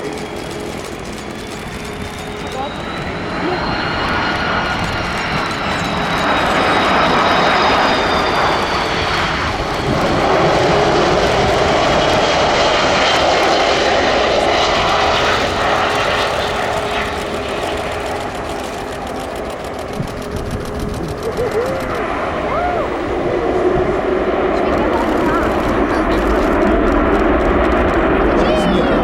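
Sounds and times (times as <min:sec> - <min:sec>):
jet engine rush: 0:00.0 - 0:29.0
jet engine whine: 0:00.0 - 0:29.0.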